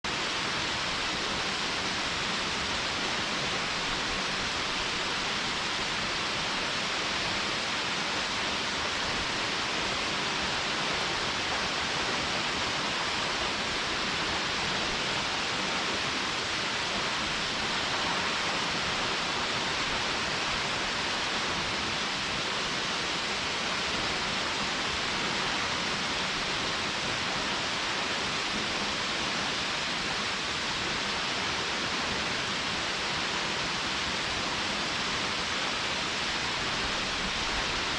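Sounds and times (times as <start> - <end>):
stream water rushing: 0.1 - 37.9.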